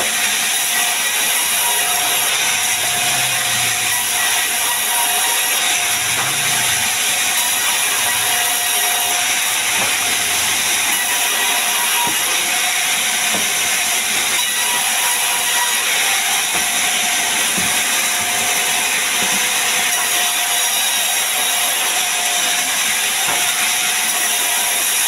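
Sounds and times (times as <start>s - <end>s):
band saw cutting logs: 0.0s - 25.0s.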